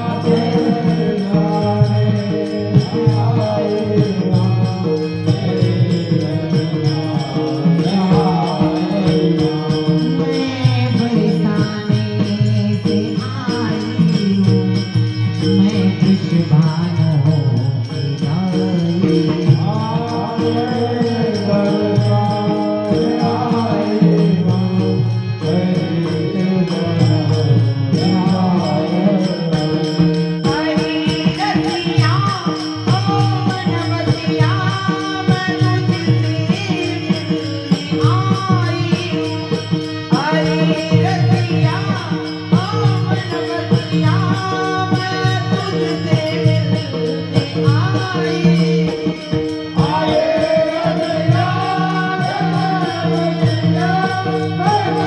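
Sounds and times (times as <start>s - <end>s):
jingling hand percussion: 0.0s - 55.0s
person singing: 0.0s - 55.0s.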